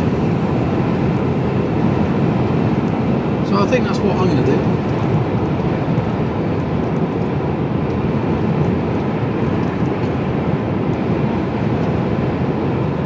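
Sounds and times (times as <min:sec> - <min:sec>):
lorry engine and road noise: 0:00.0 - 0:13.0.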